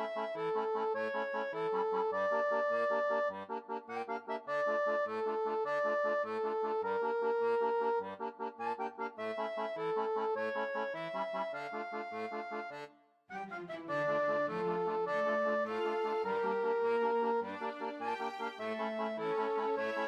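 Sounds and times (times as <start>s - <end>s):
background music melody: 0.0s - 20.0s.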